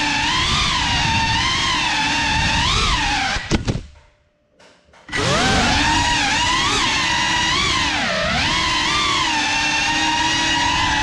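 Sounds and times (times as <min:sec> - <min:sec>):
drone propellers whining: 0:00.0 - 0:03.6, 0:05.1 - 0:11.0.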